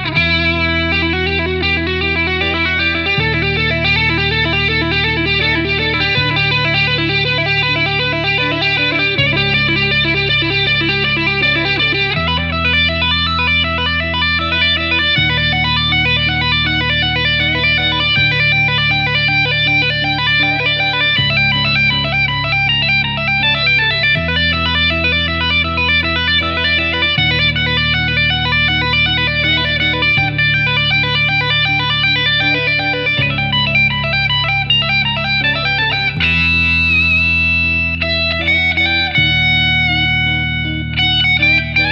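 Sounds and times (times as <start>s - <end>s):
electric guitar instrumental: 0.0s - 41.9s.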